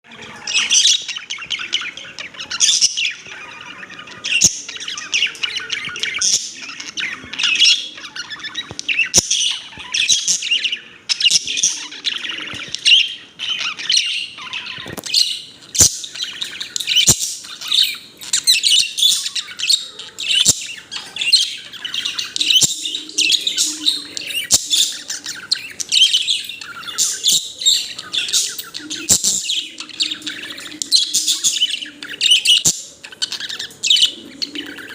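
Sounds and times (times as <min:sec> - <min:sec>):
budgerigar chirping and warbling: 0:00.1 - 0:34.9.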